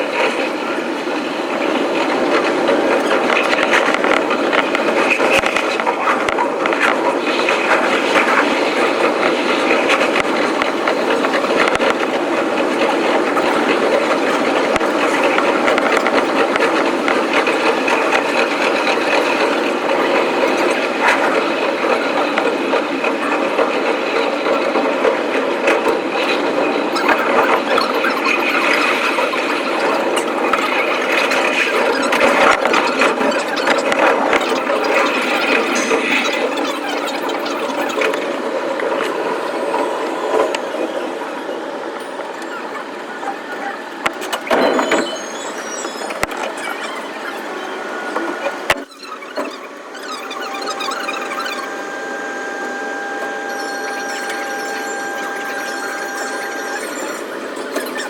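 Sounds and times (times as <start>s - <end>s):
train wheels rattling on rail: 0.0s - 58.0s.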